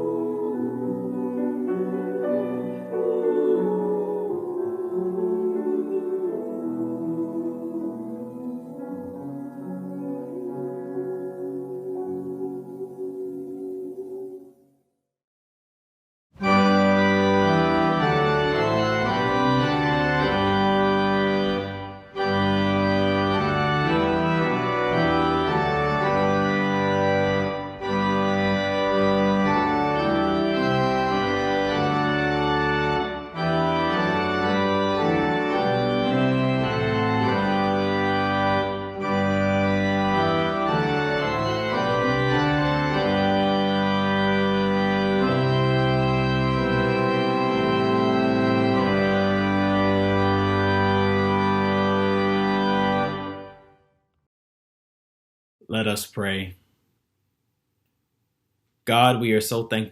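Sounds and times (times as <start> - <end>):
organ playing sustained chords: 0.0 - 14.5, 16.4 - 53.8.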